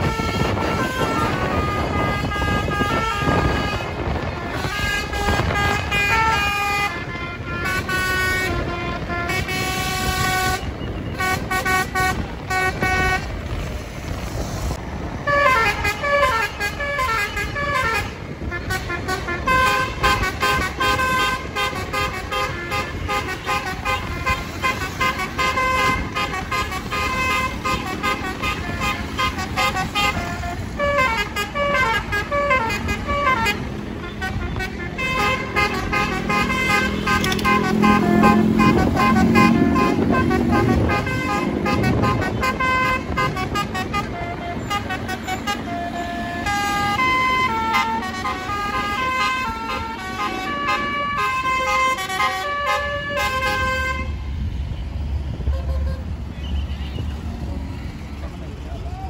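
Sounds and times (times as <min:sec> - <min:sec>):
loud musical bus horn tunes: 0:00.0 - 0:13.4, 0:15.2 - 0:54.5
bus road noise: 0:00.0 - 0:59.0
motorcycles passing: 0:00.0 - 0:59.0.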